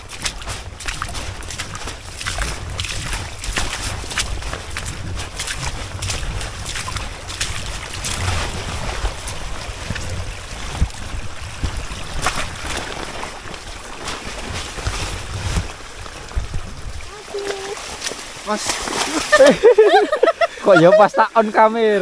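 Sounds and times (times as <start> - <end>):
wind buffeting microphone: 0.0 - 20.7
sharp splashes or footfalls: 0.0 - 20.8
rain: 0.0 - 22.0
running water: 0.0 - 22.0.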